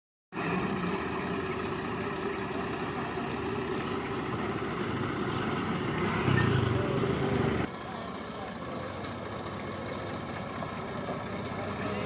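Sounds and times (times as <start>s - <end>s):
tractor diesel engine running: 0.3s - 12.0s.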